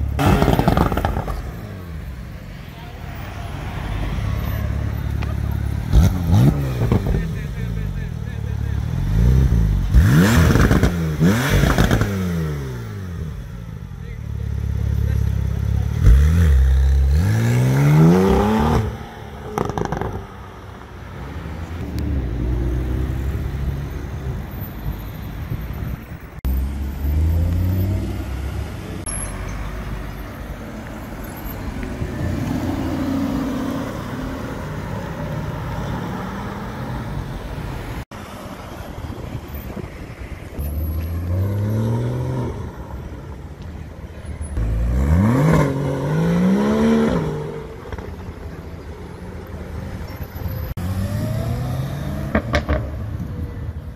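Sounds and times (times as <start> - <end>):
car engines accelerating: 0.0 - 53.9.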